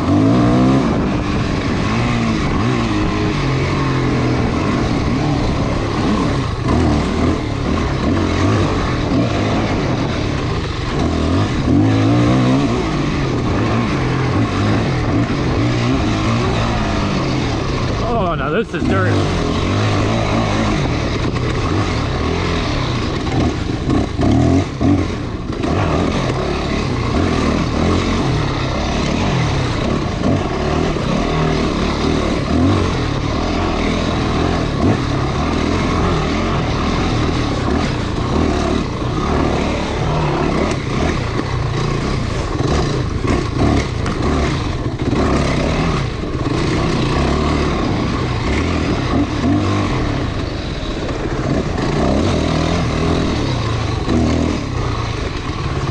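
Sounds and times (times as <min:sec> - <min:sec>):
off-road motorcycle engine: 0:00.0 - 0:55.9.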